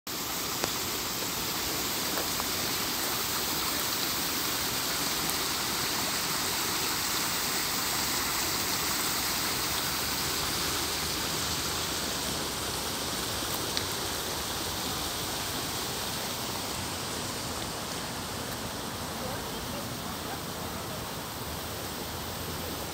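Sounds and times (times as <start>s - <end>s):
running water from water feature: 0.1s - 22.9s.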